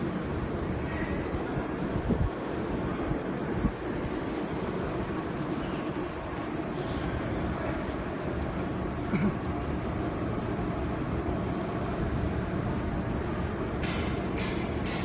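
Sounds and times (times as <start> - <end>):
machinery and conveyor belt running: 0.0 - 15.0.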